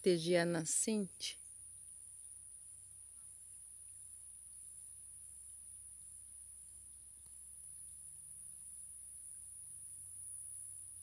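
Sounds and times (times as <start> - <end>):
insects buzzing drone: 0.0 - 11.0
pulsing insect call: 0.0 - 11.0.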